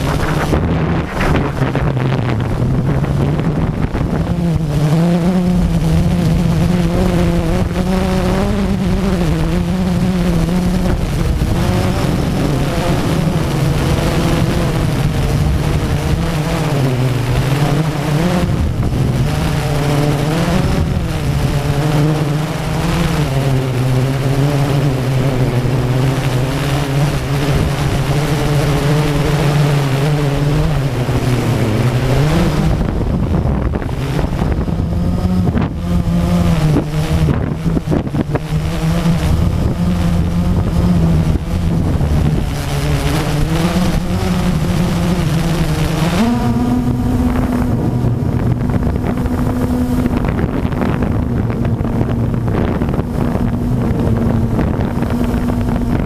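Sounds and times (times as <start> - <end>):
drone propellers buzzing: 0.0 - 56.0
wind rushing over microphone: 0.0 - 56.0.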